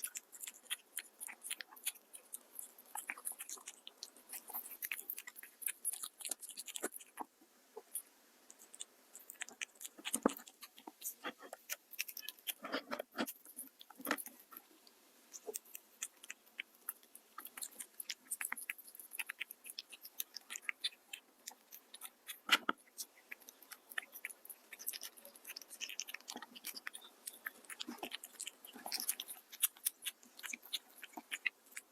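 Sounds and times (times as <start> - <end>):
cat chewing and lapping food: 0.0 - 31.9.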